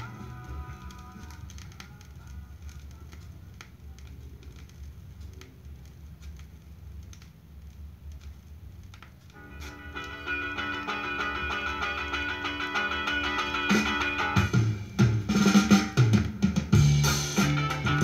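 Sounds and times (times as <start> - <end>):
vinyl surface clicks and crackles: 0.0 - 18.0.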